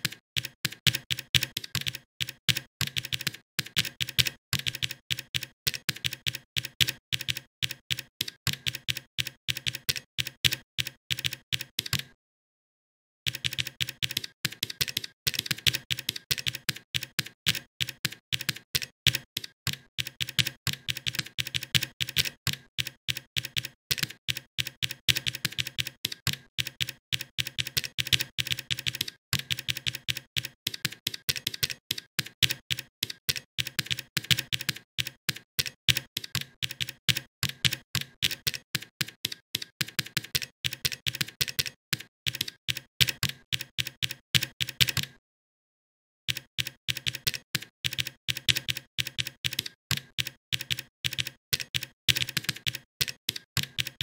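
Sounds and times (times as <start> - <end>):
rapid keyboard typing: 0.0 - 12.0, 13.3 - 45.1, 46.3 - 54.0.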